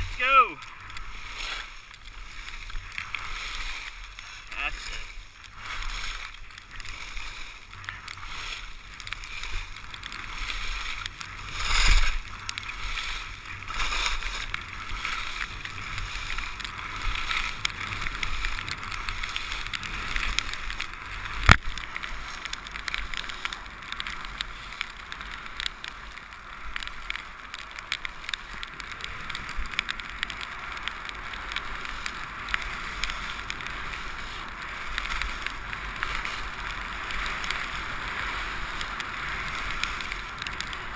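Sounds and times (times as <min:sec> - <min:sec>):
skis scraping on packed snow: 0:00.0 - 0:40.9
wind rumble on microphone: 0:00.0 - 0:40.9.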